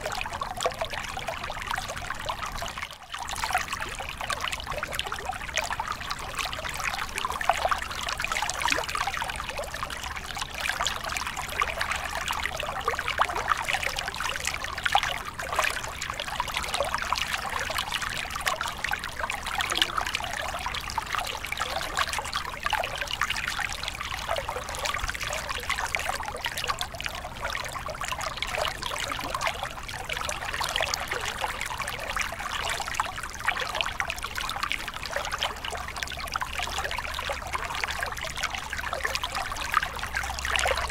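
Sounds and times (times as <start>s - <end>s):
stream babbling over rocks: 3.3s - 40.9s.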